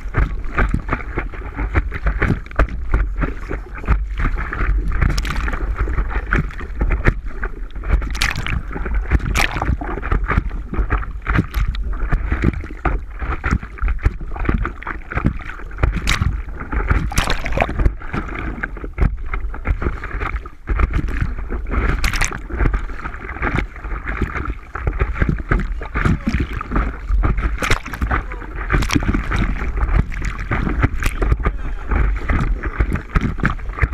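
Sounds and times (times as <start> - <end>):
sea water lapping: 0.0 - 33.9
wind buffeting microphone: 0.0 - 33.9.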